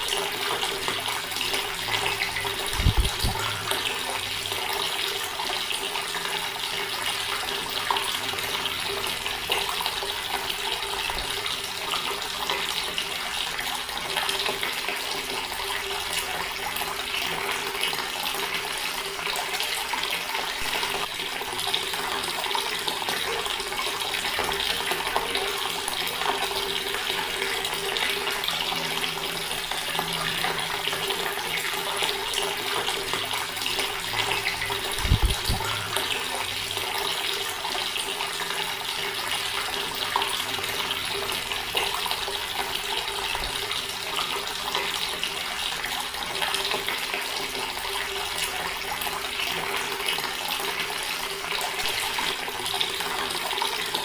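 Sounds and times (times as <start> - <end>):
water running from tap: 0.0 - 54.0.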